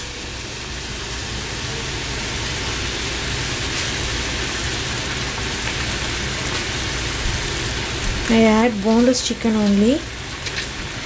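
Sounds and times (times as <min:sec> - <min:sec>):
gravy sizzling and bubbling in pan: 0:00.0 - 0:11.0.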